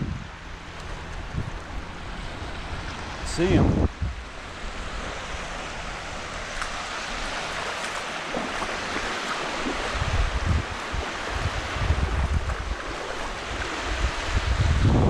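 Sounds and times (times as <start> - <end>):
surf washing over sand: 0.0 - 15.0
wind buffeting microphone: 0.0 - 15.0.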